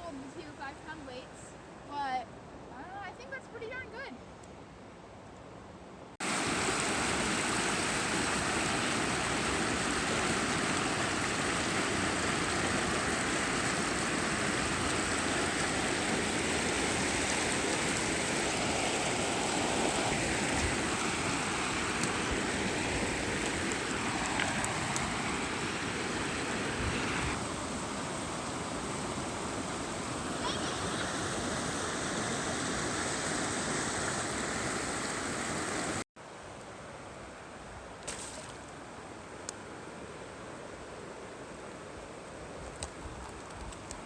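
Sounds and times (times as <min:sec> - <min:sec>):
rushing water: 0:06.2 - 0:44.0.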